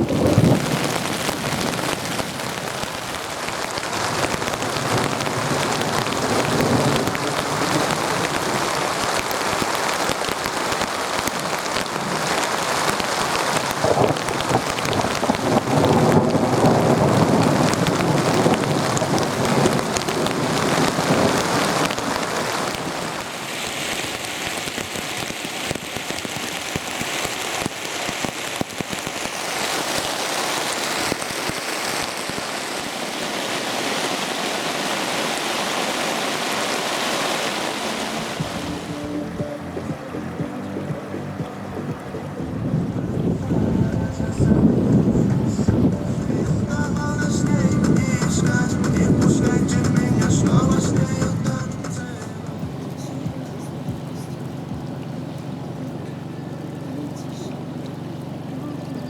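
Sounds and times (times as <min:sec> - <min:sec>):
rain drops pattering: 0:00.0 - 0:59.0.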